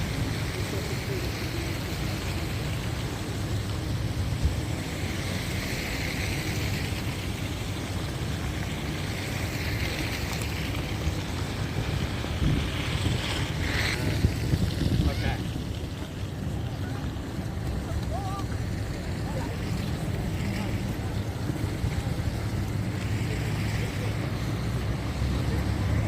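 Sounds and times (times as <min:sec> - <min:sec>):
traffic rumble: 0:00.0 - 0:26.0
vehicles passing on snowy road: 0:00.0 - 0:26.0.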